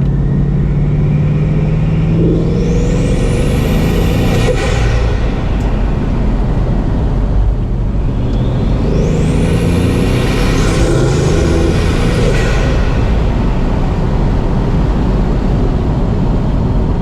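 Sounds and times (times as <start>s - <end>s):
car engine low rumble: 0.0s - 17.0s
high turbo whistle: 0.2s - 15.4s.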